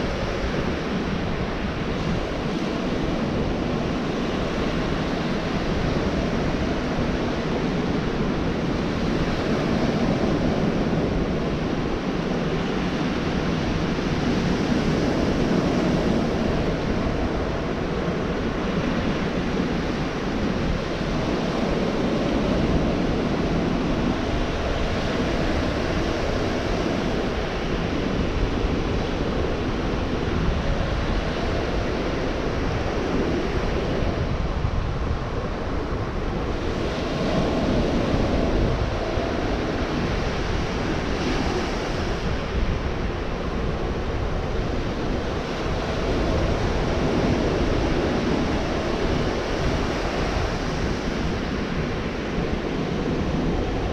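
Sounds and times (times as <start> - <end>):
wind on microphone: 0.0 - 53.9.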